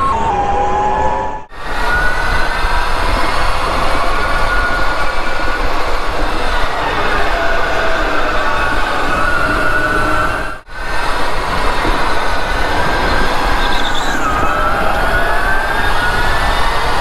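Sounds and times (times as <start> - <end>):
go-kart engine whine: 1.5 - 17.0.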